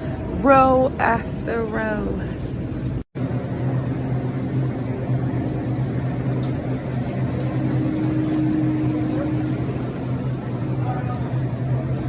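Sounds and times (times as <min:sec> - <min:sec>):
low drone: 0:00.0 - 0:12.0
motor hum: 0:00.0 - 0:12.0.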